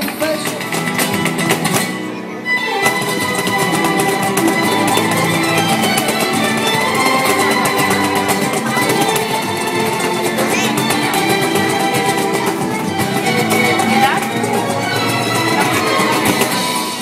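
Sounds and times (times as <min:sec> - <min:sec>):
plucked acoustic guitar: 0:00.0 - 0:17.0
rapid percussive beats: 0:00.0 - 0:17.0.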